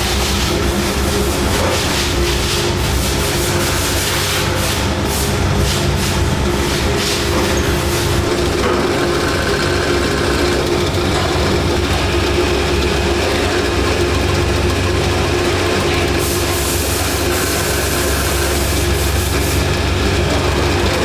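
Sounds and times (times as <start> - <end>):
factory machinery droning: 0.0 - 21.0.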